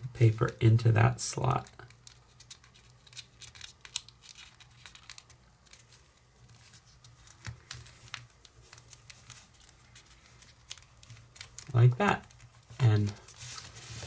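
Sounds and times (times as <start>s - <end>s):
paper crinkling and rustling: 1.5s - 14.0s.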